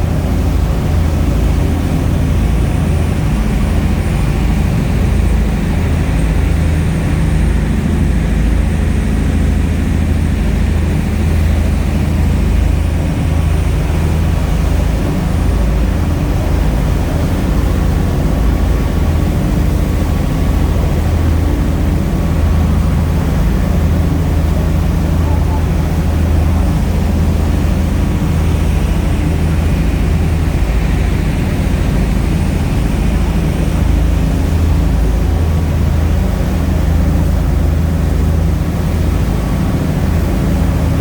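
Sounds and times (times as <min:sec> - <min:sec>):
ferry engine droning: 0:00.0 - 0:41.0.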